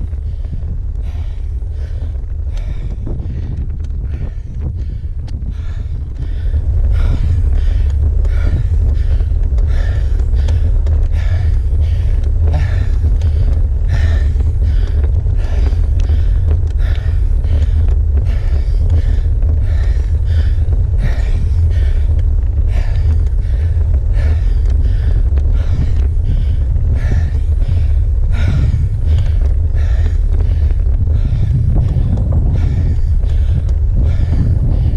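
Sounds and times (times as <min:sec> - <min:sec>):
cyclist panting heavily: 0:00.0 - 0:34.9
low rumble: 0:00.0 - 0:34.9.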